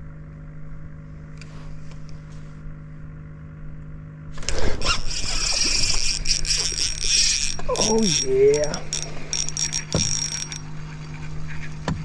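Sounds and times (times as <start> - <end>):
trolling motor humming: 0.0 - 12.0.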